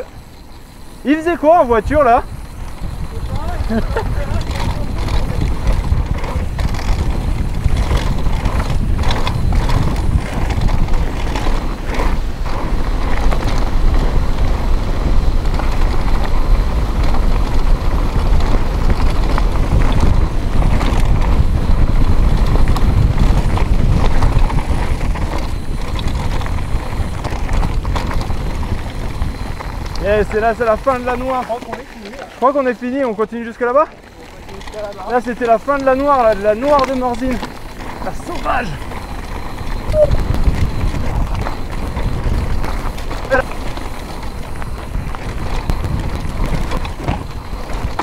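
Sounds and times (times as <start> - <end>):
bike parts rattling: 0.0 - 48.0
bike tyres rumbling on gravel: 0.0 - 48.0.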